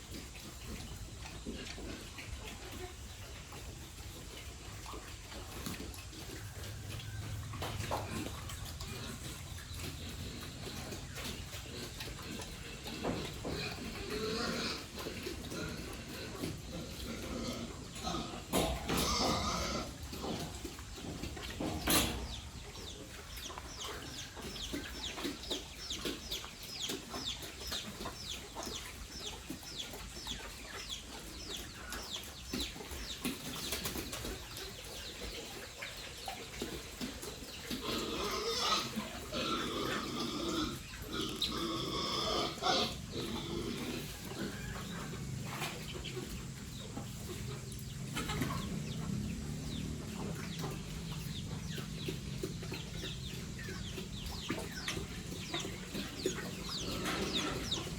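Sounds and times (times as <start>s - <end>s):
chickens clucking and calling: 0.0s - 57.9s.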